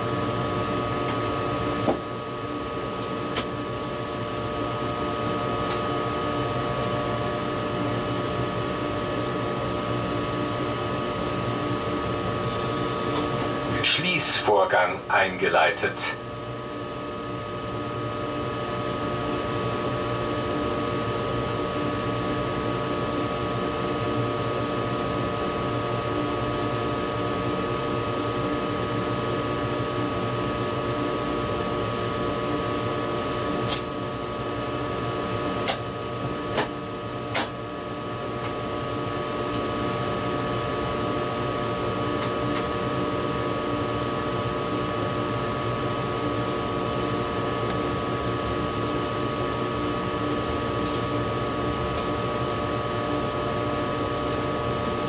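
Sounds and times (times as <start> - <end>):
train cab electric hum and hiss: 0.0 - 55.0.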